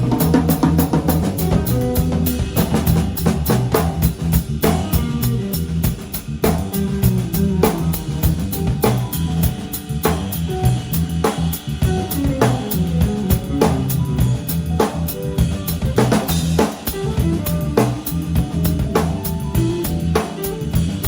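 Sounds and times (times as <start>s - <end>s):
band playing a groove: 0.0s - 21.0s.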